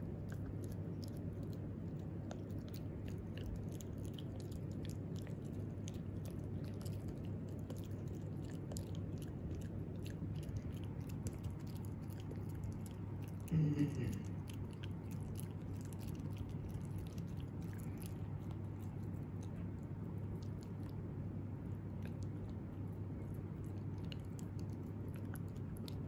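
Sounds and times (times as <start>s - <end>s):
puppy teeth crunching a chew: 0.0s - 26.0s.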